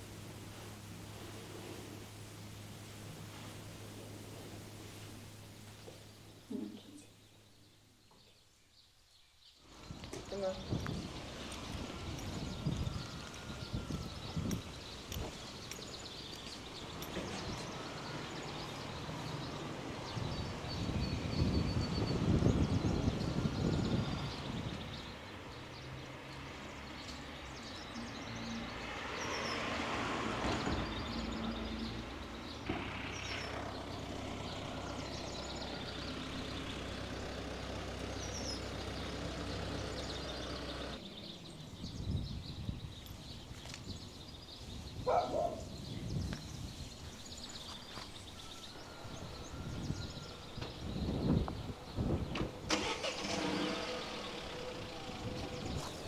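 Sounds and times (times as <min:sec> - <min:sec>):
vehicle engine humming: 0:00.0 - 0:07.2, 0:09.7 - 0:41.8, 0:47.2 - 0:56.0
birds chirping: 0:00.0 - 0:56.0.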